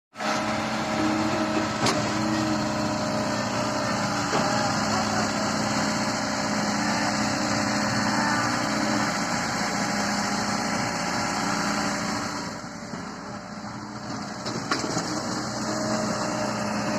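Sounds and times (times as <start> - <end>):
diesel engine running: 0.2 - 16.9.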